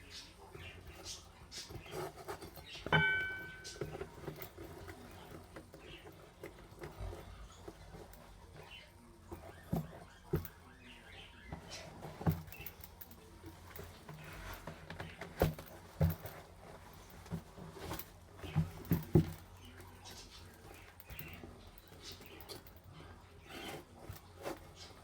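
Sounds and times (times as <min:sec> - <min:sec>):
scratchy rustling and scraping: 0:00.0 - 0:25.0.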